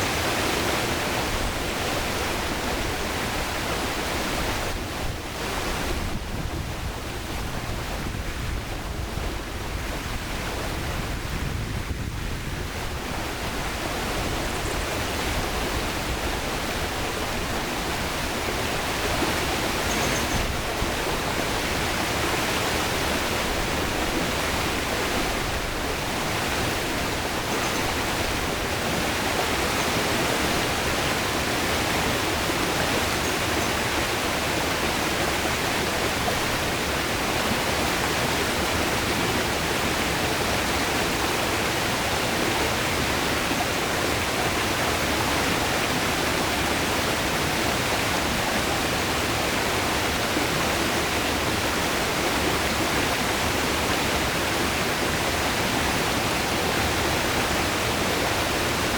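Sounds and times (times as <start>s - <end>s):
river water rushing over rocks: 0.0s - 11.6s, 12.6s - 58.9s.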